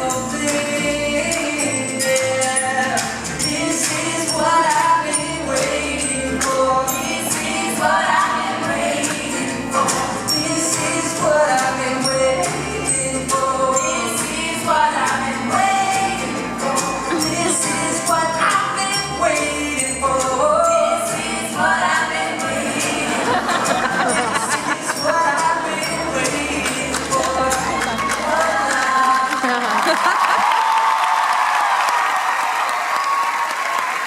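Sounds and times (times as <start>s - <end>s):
tambourine jingling: 0.0s - 28.5s
voices singing together: 0.0s - 29.9s
live band playing pop: 0.0s - 30.0s.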